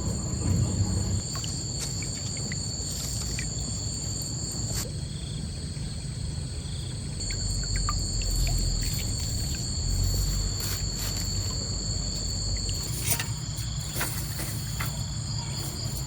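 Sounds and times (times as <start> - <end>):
insects droning: 0.0 - 16.0
low rumbling background: 0.0 - 16.0.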